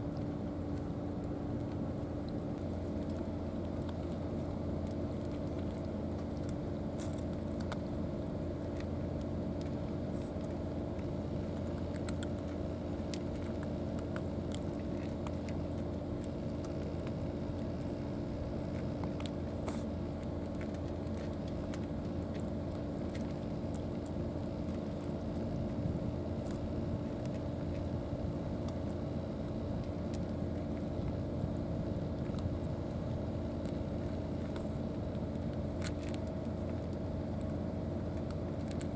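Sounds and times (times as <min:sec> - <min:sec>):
motor droning: 0:00.0 - 0:38.9.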